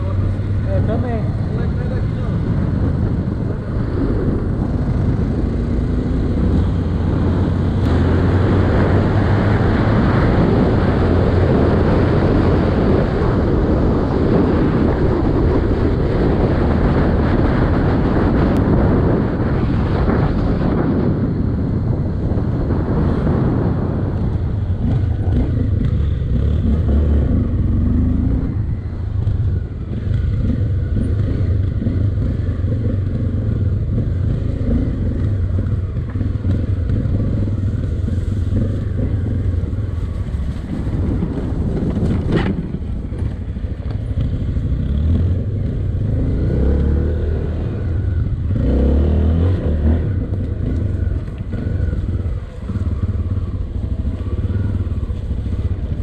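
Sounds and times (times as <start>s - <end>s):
motorcycle engine on rough ground: 0.0s - 56.0s.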